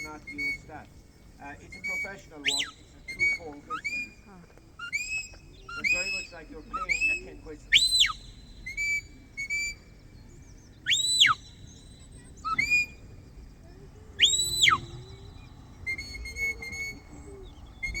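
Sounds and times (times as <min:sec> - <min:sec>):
shepherd's whistle blown: 0:00.0 - 0:00.7, 0:01.7 - 0:09.9, 0:10.8 - 0:13.0, 0:14.2 - 0:18.0.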